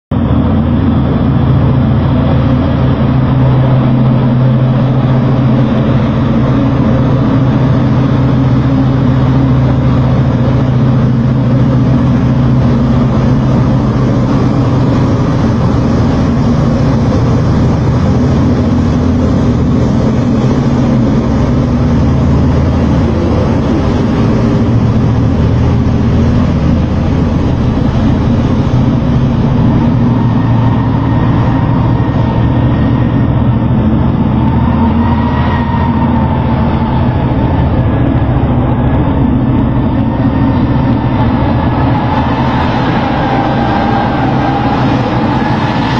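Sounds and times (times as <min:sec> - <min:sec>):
haul truck engine drone: 0:00.0 - 0:45.9.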